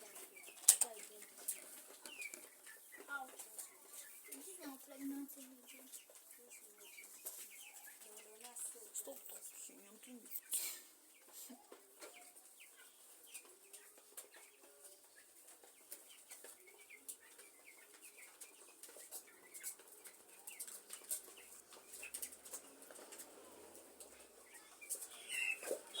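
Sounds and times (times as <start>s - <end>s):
chicks cheeping: 0.0s - 26.0s.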